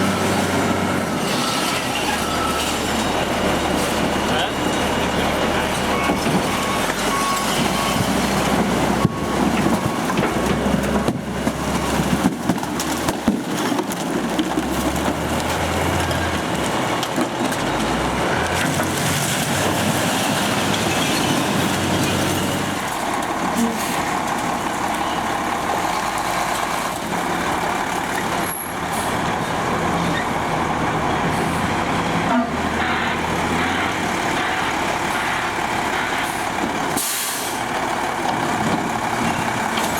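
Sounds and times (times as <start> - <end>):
truck engine running: 1.8 - 39.9.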